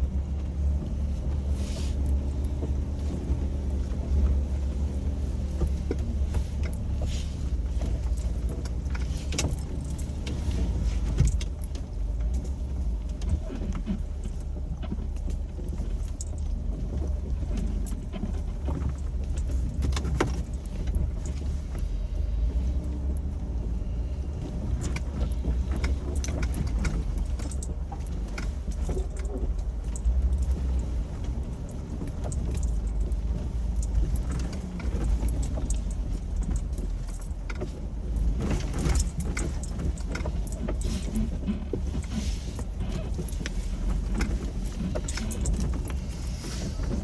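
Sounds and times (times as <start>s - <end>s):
engine and drivetrain rumble: 0.0s - 47.0s.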